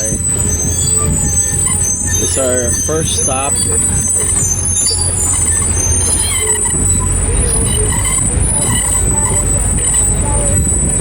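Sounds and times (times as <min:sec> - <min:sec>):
high-pitched squeak: 0:00.0 - 0:11.0
road train engine rumble: 0:00.0 - 0:11.0.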